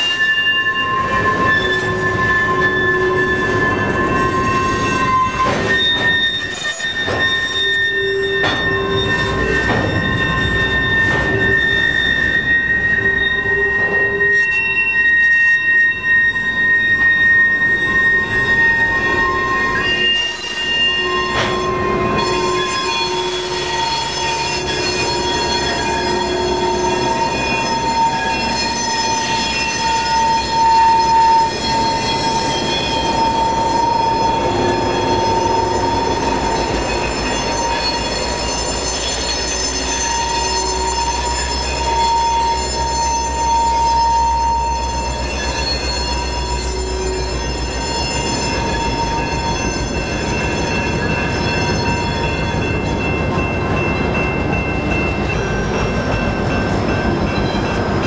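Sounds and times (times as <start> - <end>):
train wheels flange squeal: 0.0 - 58.0.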